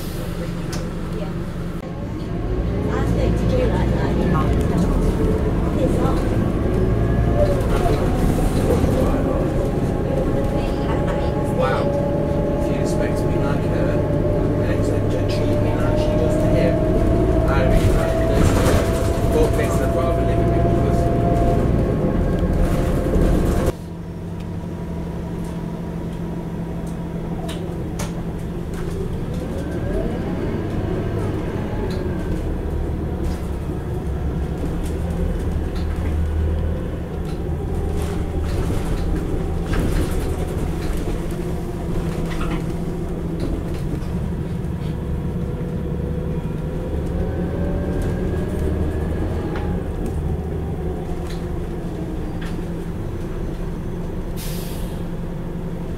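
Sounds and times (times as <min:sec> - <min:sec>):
coach engine running: 0:00.0 - 0:55.9.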